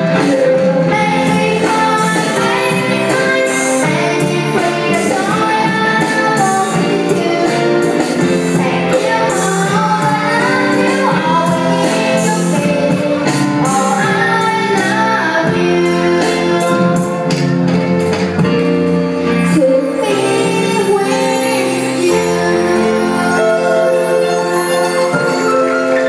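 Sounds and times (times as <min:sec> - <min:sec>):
girl singing into microphone: 0:00.0 - 0:17.3, 0:19.4 - 0:23.6
live band playing: 0:00.0 - 0:26.0.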